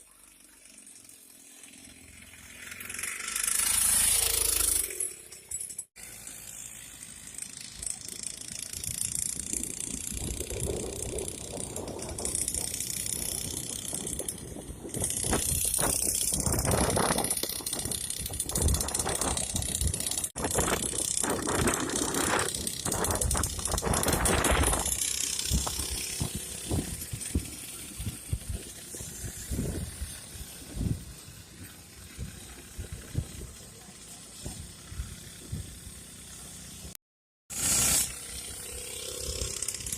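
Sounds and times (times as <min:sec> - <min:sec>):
mini dirt bike engine rattling: 0:00.0 - 0:39.9.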